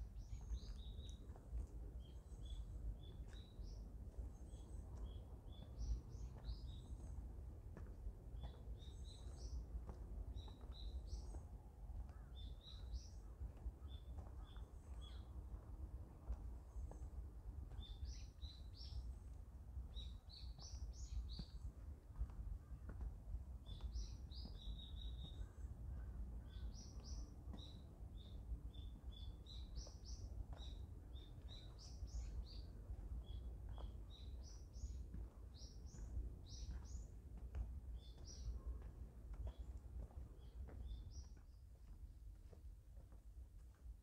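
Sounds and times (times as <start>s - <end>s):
small songbirds chirping: 0.0s - 22.8s, 23.6s - 41.7s
faint low rumble: 0.0s - 44.0s.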